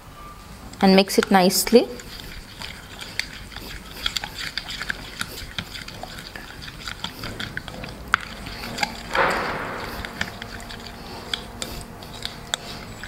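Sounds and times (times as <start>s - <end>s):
spoon stirring thick marinade: 0.7s - 13.0s.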